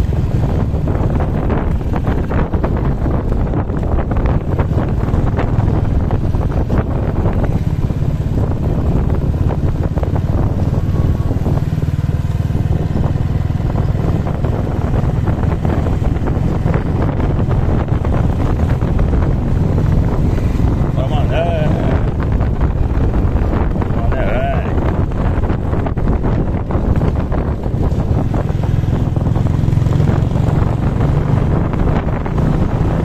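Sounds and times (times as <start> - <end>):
vehicle engine running: 0.0 - 33.0
wind rumbling on microphone: 0.0 - 33.0.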